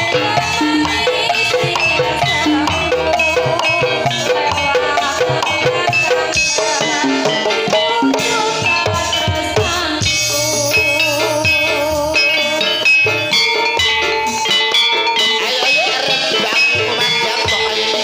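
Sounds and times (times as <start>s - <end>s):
gamelan music: 0.0s - 18.0s.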